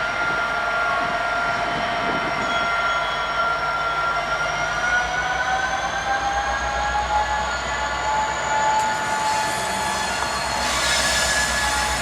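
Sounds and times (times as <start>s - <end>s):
train rumbling past: 0.0s - 12.0s
wheels squealing on rails: 0.0s - 12.0s.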